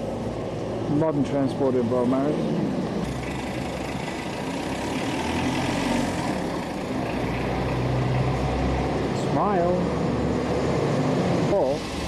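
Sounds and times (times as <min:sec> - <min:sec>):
street noise: 0:00.0 - 0:12.0
vehicle engine running low: 0:00.0 - 0:12.0.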